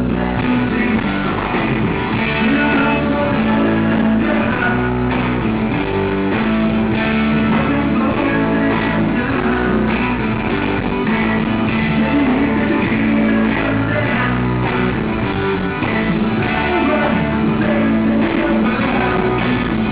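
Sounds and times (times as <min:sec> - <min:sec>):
bass guitar low notes: 0:00.0 - 0:19.9
rock band playing: 0:00.0 - 0:19.9.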